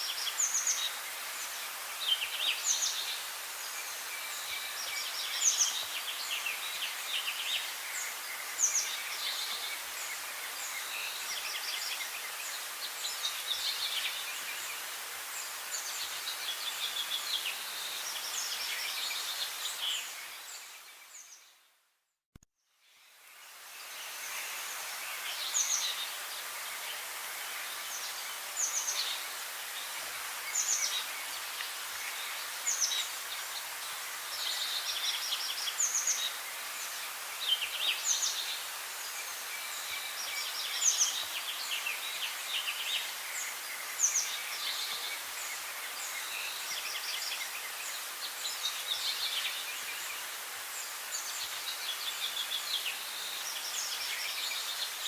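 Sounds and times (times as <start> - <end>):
steady background hiss: 0.0 - 21.5, 22.8 - 55.0
songbirds singing: 0.0 - 21.7, 22.7 - 55.0.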